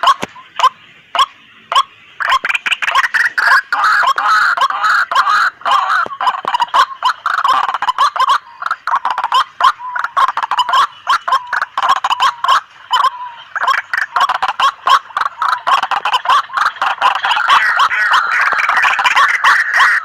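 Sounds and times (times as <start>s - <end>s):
waterhens calling noisily: 0.0s - 20.0s.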